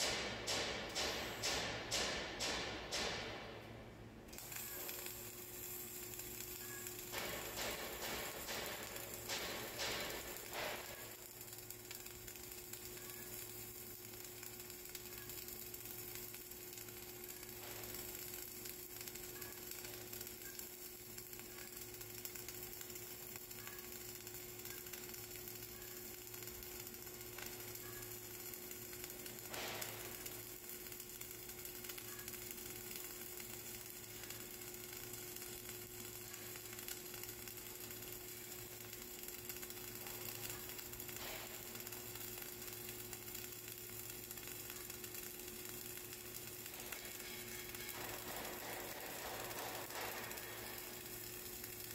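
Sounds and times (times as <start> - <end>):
loud welding crack: 0.0 - 51.9
welding arc crackling and sizzling: 0.0 - 51.9.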